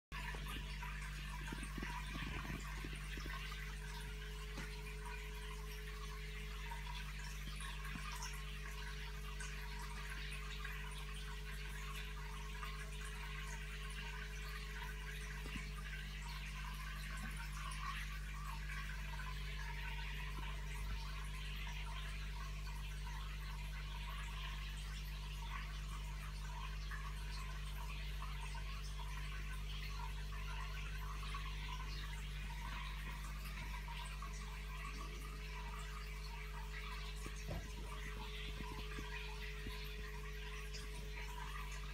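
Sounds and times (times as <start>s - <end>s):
low filter hum: 0.1s - 41.9s
water trickling with bubbles: 0.1s - 41.9s.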